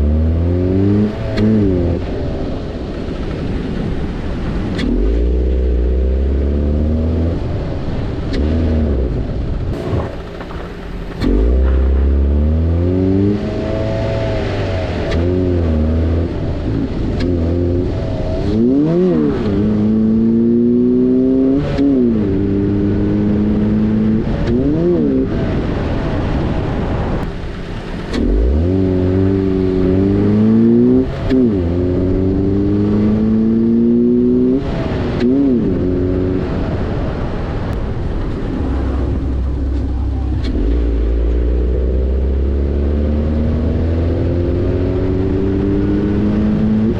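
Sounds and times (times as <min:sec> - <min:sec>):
car engine accelerating and revving: 0:00.0 - 0:46.9.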